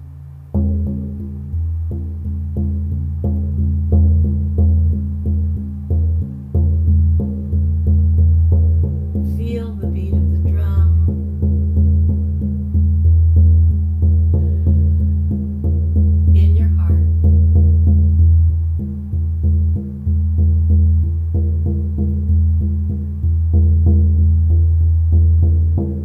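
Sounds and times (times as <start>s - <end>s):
frame drum beaten steadily: 0.6s - 26.0s.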